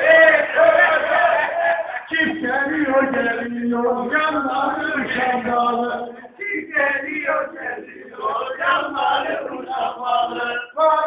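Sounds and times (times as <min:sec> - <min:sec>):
men singing: 0:00.0 - 0:11.0.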